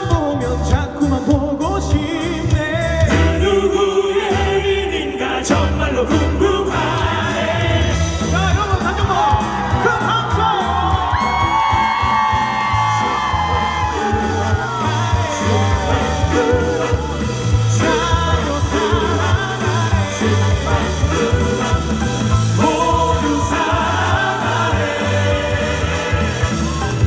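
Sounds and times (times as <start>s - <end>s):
live rock band: 0.0s - 4.8s, 5.5s - 27.0s
person singing: 0.0s - 27.0s.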